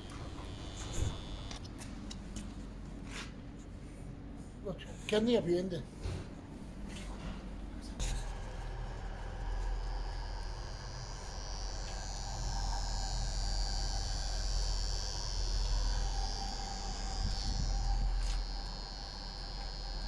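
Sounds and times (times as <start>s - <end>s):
welding unit electrical hum: 0.0s - 20.0s.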